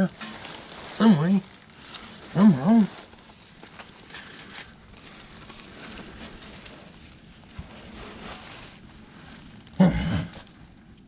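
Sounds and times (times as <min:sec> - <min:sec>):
faint rustling and scraping: 0:00.0 - 0:11.0.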